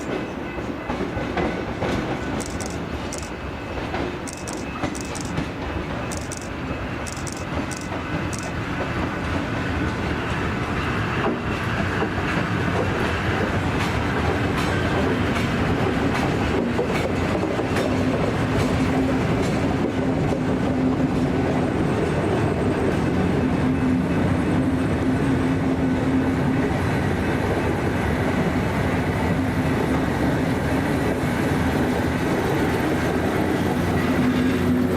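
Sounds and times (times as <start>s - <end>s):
electric train on rails: 0.0s - 34.9s.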